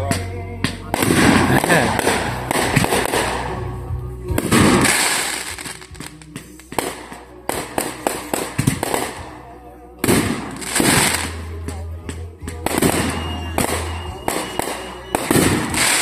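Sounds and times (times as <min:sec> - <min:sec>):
fireworks booming: 0:00.0 - 0:16.0
crackling pops: 0:00.1 - 0:03.7, 0:04.3 - 0:09.4, 0:10.0 - 0:16.0.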